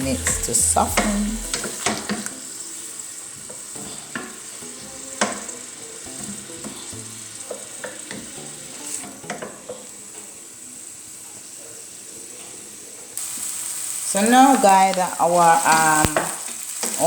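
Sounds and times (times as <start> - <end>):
onions sizzling in a pan: 0.0 - 17.0.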